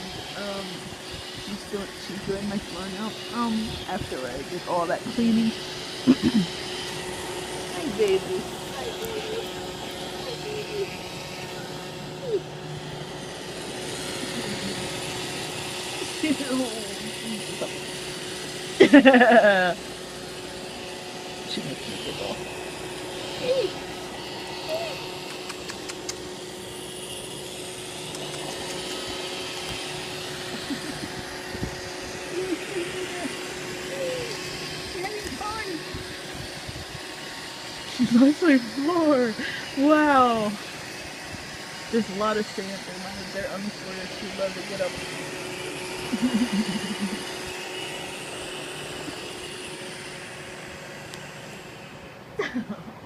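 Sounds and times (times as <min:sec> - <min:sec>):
robot vacuum motor whirring: 0:00.0 - 0:52.0.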